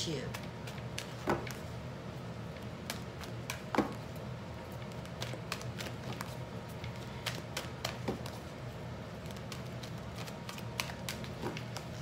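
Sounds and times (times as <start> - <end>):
low steady hum: 0.0 - 12.0
cards being shuffled: 0.3 - 12.0.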